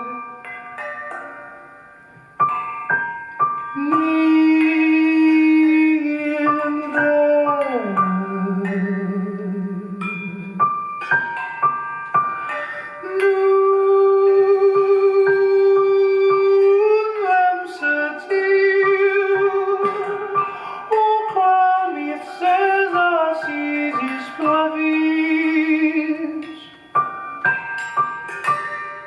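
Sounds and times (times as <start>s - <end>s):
accompanying instruments: 0.0s - 29.0s
melody of held notes with vibrato: 0.0s - 29.0s.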